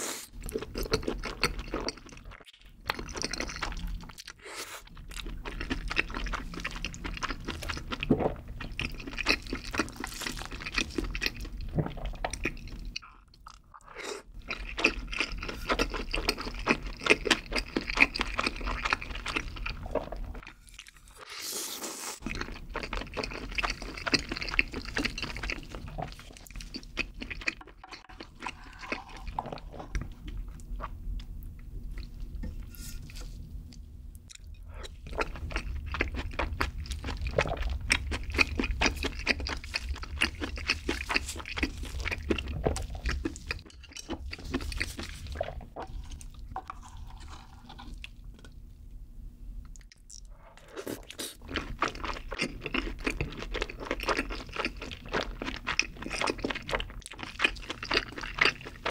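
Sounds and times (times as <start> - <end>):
close chewing with wet clicks: 0.4 - 20.2, 22.2 - 32.2, 33.7 - 46.5, 51.4 - 58.9.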